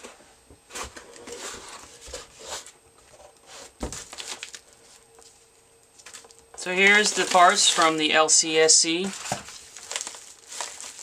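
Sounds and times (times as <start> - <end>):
cardboard and paper rustling: 0.7 - 11.0.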